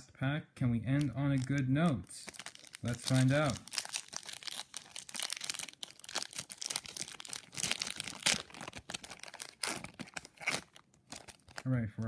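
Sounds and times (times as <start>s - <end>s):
foil wrapper crinkling: 1.0s - 12.0s.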